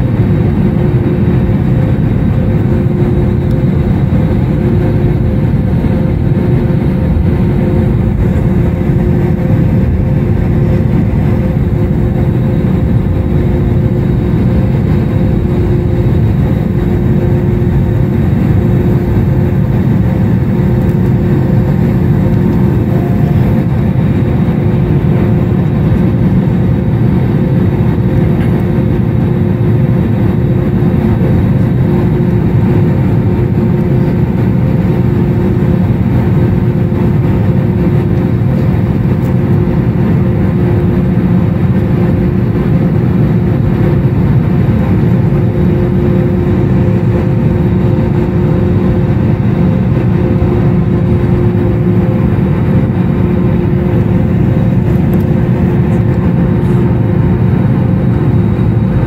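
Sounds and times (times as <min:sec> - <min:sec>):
airplane cabin rumble: 0:00.0 - 0:59.0
jet engine drone: 0:00.0 - 0:59.0.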